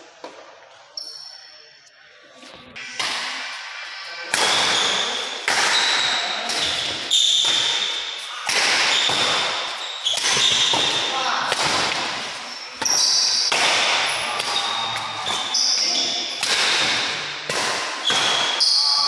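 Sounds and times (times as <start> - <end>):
racket hitting shuttlecock: 2.8 - 18.6.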